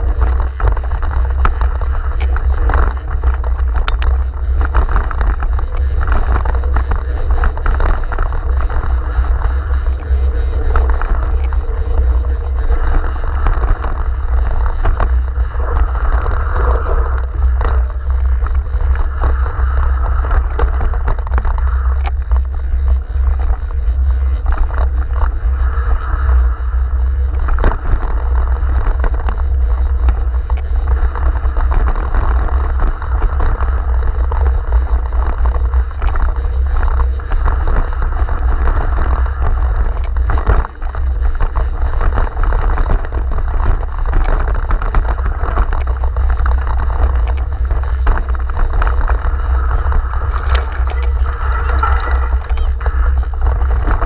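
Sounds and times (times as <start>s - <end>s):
bike rattling over trail: 0.0s - 54.0s
wind buffeting microphone: 0.0s - 54.0s.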